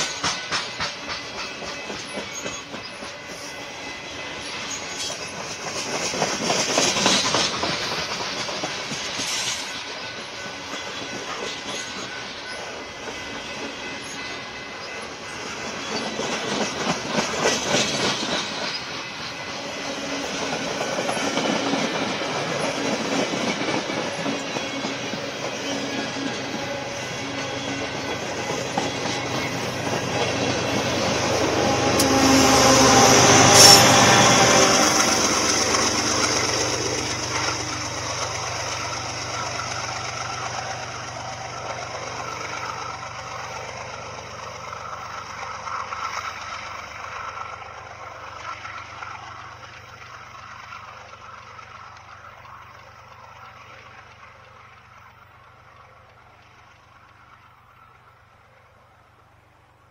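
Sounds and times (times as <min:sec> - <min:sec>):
locomotive engine hum: 0:00.0 - 0:59.9
train cars rumbling and clacking: 0:00.0 - 0:59.9.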